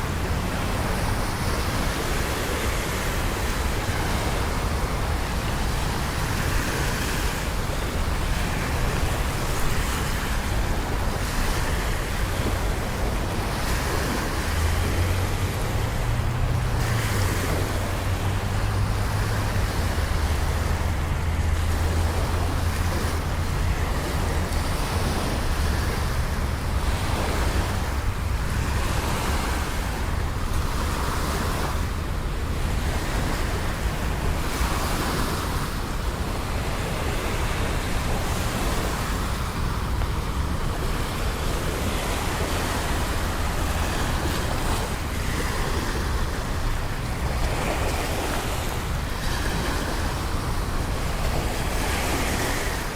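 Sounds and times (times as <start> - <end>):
city traffic rumble: 0.0 - 52.9
low engine hum: 0.0 - 52.9.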